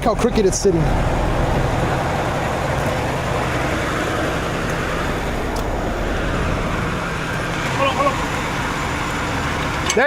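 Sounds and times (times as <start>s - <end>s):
road traffic noise: 0.0s - 10.0s
truck engine running: 0.0s - 10.0s.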